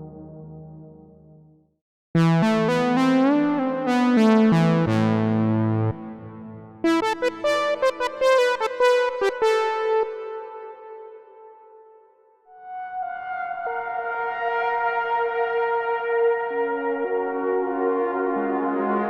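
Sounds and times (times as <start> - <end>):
synthesizer lead melody: 2.2 - 19.0.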